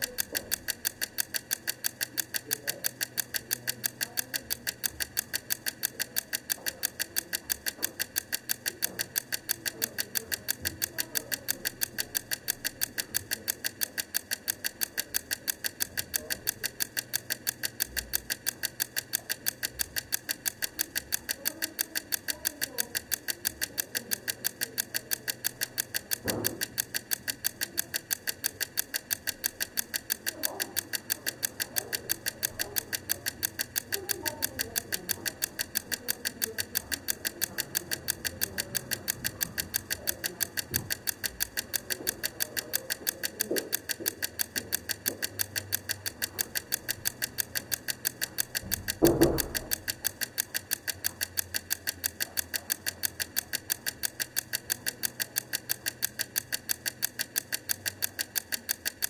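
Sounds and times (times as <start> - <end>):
clockwork timer ticking: 0.0 - 59.0.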